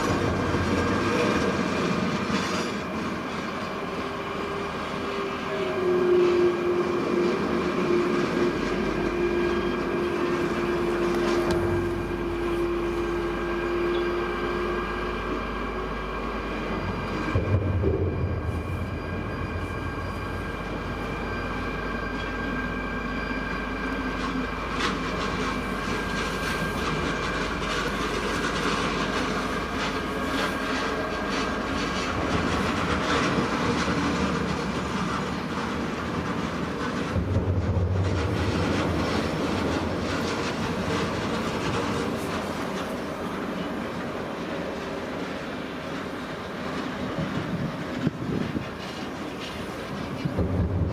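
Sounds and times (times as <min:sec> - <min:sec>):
train wheels clattering over rails: 0:00.0 - 0:15.7, 0:16.4 - 0:50.9.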